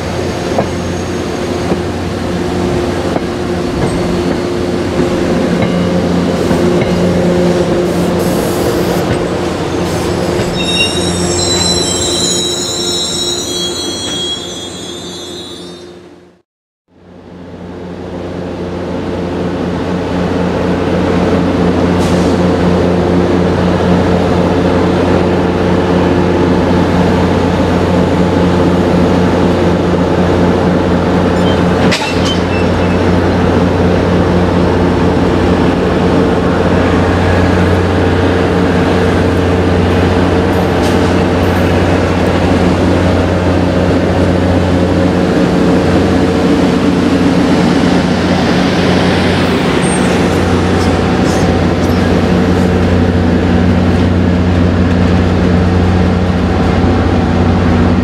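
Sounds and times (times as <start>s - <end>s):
train coaches rumbling: 0.0s - 16.0s, 17.3s - 58.0s
diesel locomotive drone: 0.0s - 58.0s.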